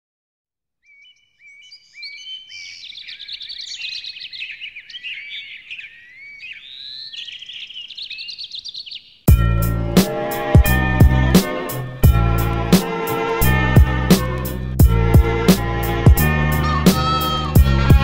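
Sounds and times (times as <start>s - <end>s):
birds chirping and singing: 0.8s - 18.0s.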